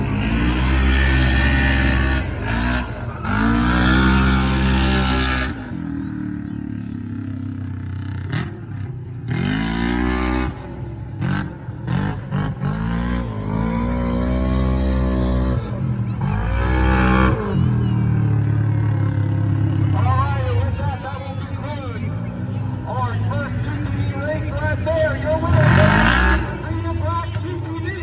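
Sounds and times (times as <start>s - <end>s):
racing engine revving: 0.0s - 7.0s, 8.0s - 20.8s, 21.6s - 28.0s.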